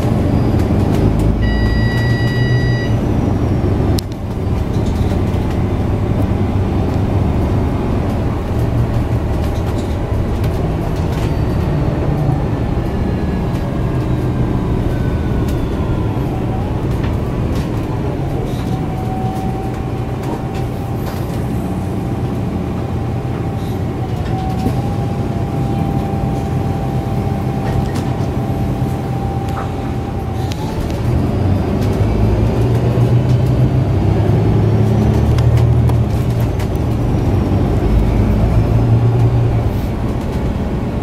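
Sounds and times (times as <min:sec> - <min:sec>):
bus diesel engine running: 0:00.0 - 0:41.0
drivetrain whine: 0:00.0 - 0:41.0.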